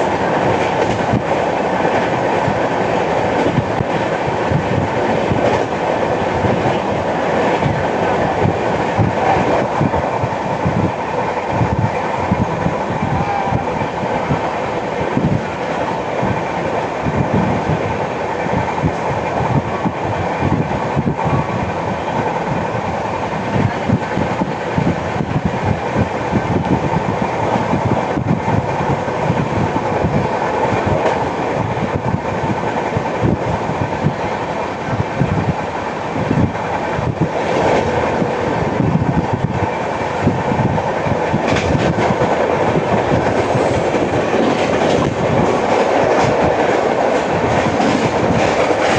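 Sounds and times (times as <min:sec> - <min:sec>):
train wheels clattering over rails: 0:00.0 - 0:48.9.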